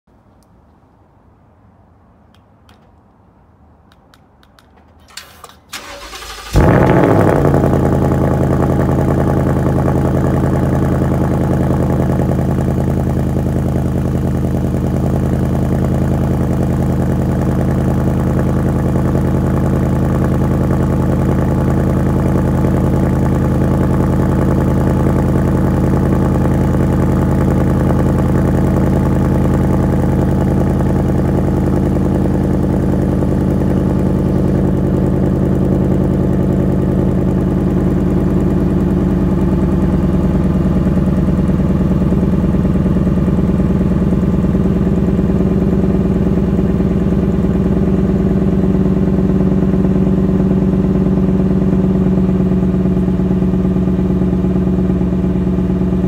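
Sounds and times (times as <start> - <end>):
car engine idling: 3.9 - 56.0.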